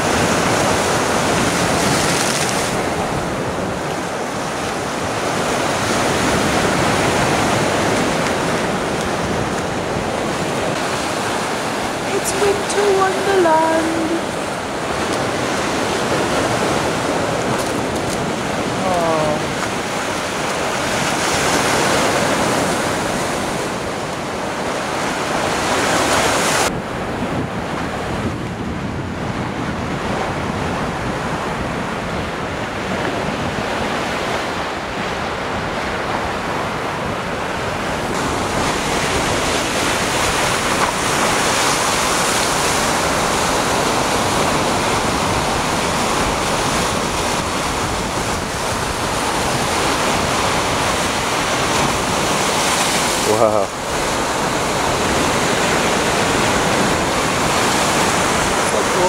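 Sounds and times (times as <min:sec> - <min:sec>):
waves breaking on rocky shore: 0:00.0 - 0:59.0
wind buffeting microphone: 0:00.0 - 0:59.0.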